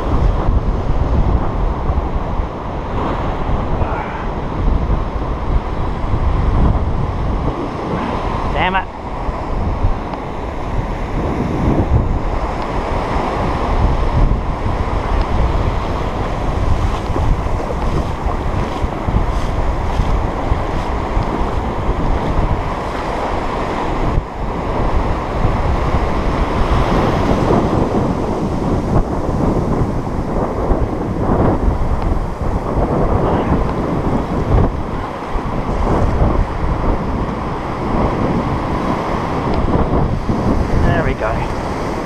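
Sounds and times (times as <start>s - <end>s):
surf breaking on sand: 0.0s - 42.0s
wind buffeting microphone: 0.0s - 42.0s.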